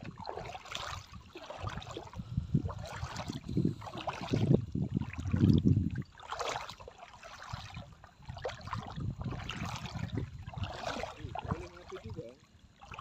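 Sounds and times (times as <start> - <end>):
sea water sloshing: 0.0 - 13.0.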